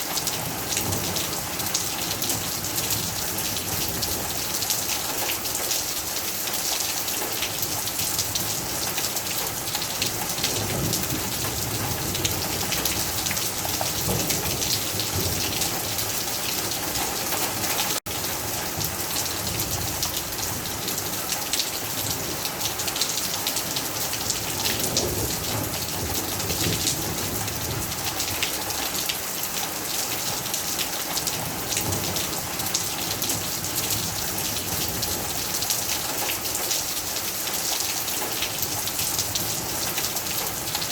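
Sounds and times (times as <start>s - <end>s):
heavy rain patter: 0.0s - 40.9s.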